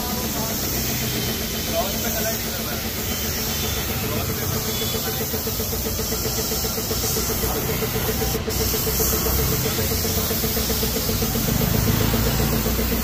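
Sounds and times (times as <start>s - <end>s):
paint spray gun hissing: 0.0s - 13.0s
pulsing machine hum: 0.0s - 13.0s.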